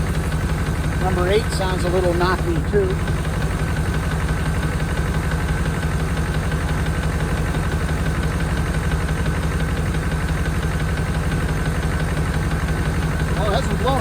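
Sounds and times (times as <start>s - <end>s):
car engine running: 0.0s - 14.0s
rapid engine ticking knock: 0.0s - 14.0s.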